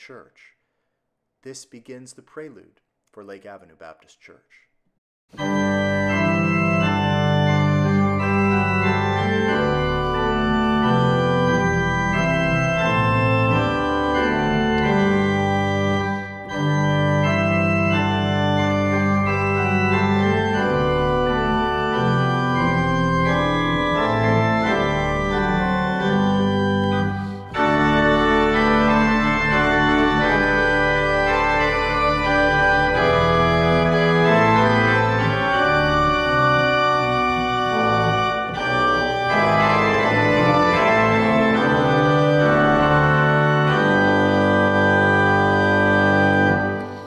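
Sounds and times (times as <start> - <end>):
organ music held chords: 5.3 - 47.0.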